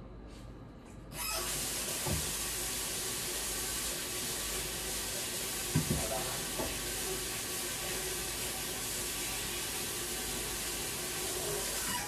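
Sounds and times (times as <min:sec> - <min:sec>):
kitchen tap running: 0:01.2 - 0:12.0.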